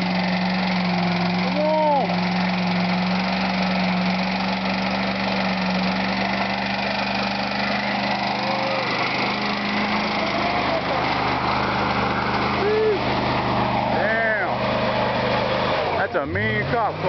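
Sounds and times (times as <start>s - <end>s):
car engine running steadily: 0.0s - 17.0s.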